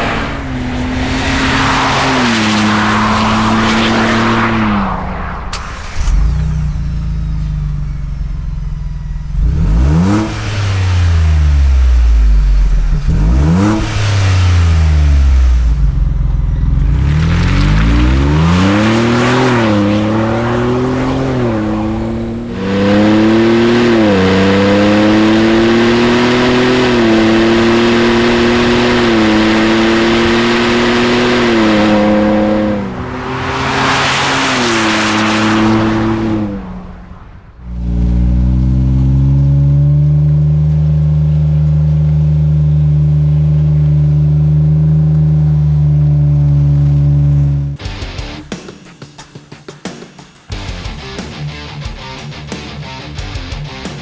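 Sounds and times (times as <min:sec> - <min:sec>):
engine revving and accelerating: 0:00.0 - 0:08.0, 0:08.7 - 0:48.4.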